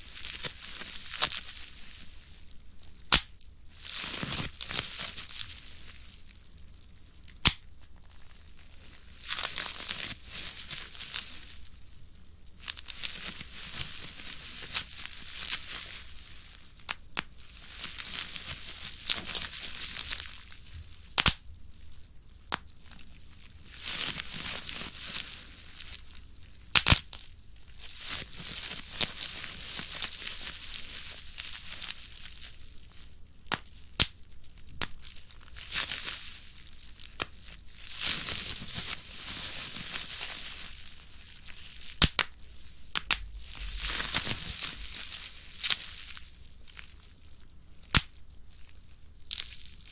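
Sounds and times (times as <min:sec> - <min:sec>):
bubble wrap crackling: 0:00.0 - 0:49.9.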